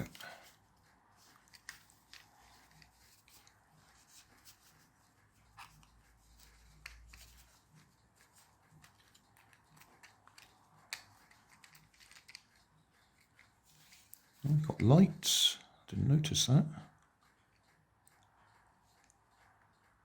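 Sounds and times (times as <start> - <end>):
plastic toy clicks and rubbing: 0.0 - 15.5, 16.4 - 20.0.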